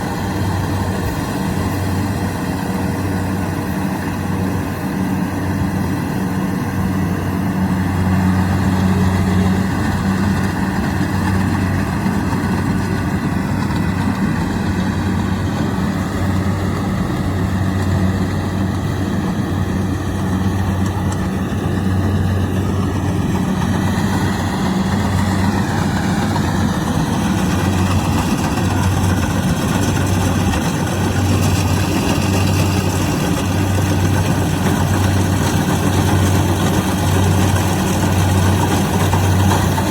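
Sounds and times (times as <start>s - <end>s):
diesel engine running: 0.0s - 39.9s
machinery noise: 0.0s - 39.9s.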